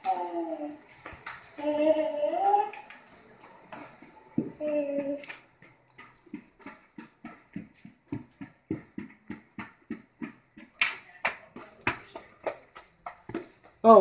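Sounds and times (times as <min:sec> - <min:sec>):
footsteps walking briskly: 0:00.4 - 0:14.0.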